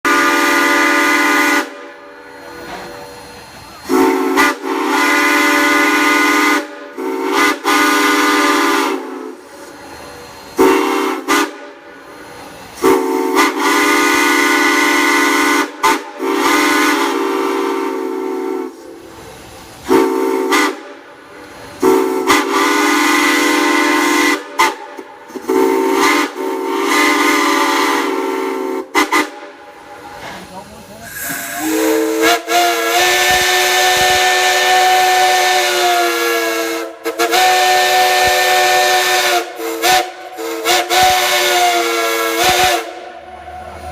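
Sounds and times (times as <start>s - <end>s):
steam whistle blasts: 0.0s - 12.2s, 12.8s - 19.2s, 19.8s - 21.1s, 21.8s - 30.1s, 31.0s - 43.9s
steam hissing: 0.1s - 43.9s.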